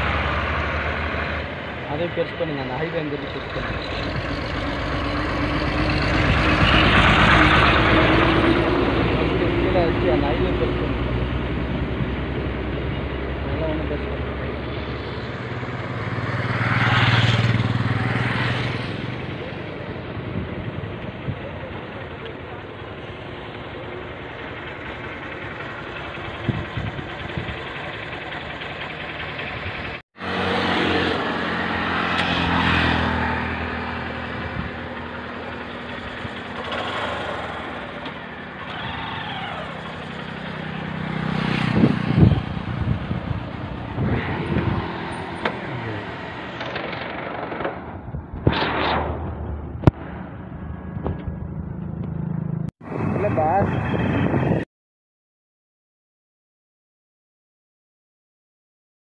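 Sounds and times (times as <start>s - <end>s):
vehicle engine hum: 0.0s - 54.6s
road and wind noise: 0.0s - 54.7s.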